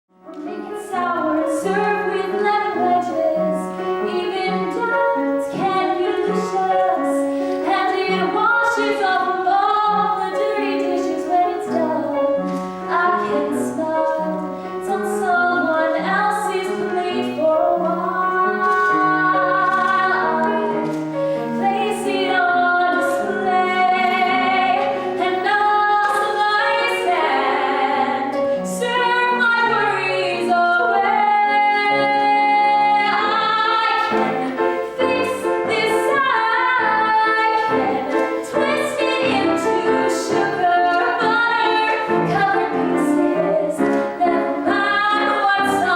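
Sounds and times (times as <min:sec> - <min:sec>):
instrumental accompaniment: 0:00.1 - 0:45.9
woman singing: 0:00.2 - 0:45.9.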